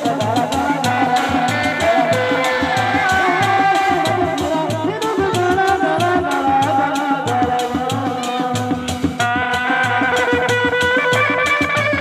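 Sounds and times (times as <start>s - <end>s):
barrel drum beaten by hand: 0.0s - 12.0s.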